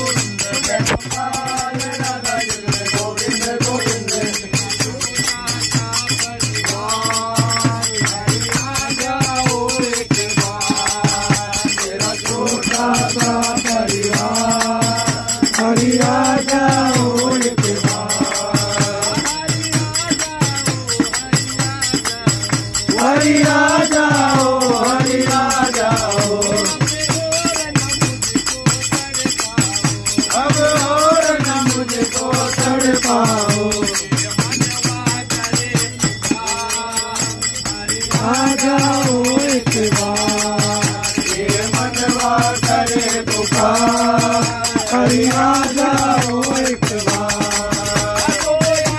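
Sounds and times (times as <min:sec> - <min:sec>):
men singing in unison: 0:00.0 - 0:48.9
small hand cymbals jingling: 0:00.0 - 0:48.9.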